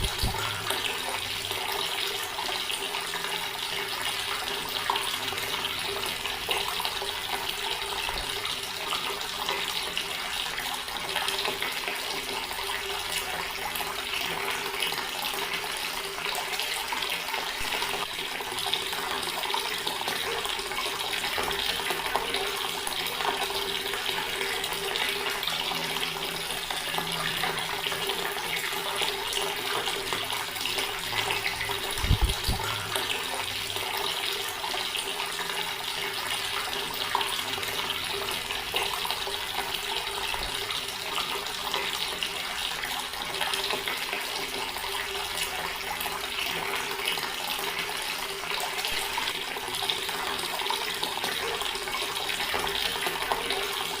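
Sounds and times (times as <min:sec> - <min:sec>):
tap water splashing into basin: 0:00.0 - 0:54.0.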